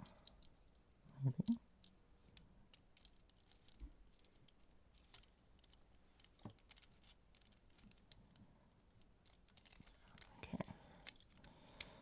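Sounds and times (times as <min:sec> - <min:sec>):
small plastic parts clicking: 0:00.0 - 0:00.8, 0:01.4 - 0:12.0.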